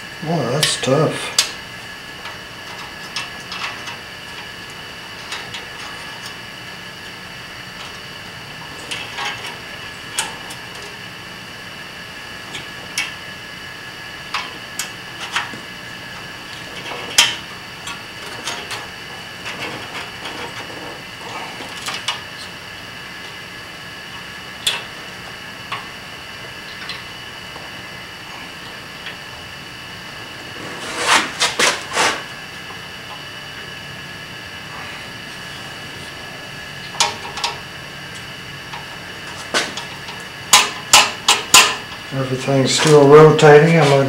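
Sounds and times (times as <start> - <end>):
steady high hum: 0.0 - 44.0.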